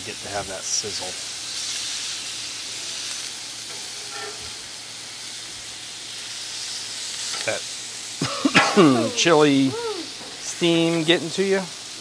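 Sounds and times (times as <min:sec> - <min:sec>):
tacos sizzling on a griddle: 0:00.0 - 0:12.0.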